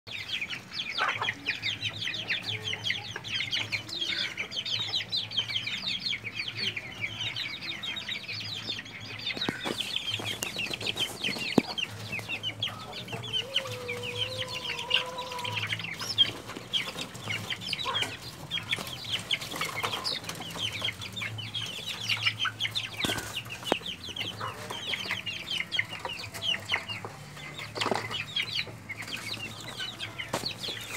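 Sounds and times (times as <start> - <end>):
chicks peeping: 0.1 - 30.9.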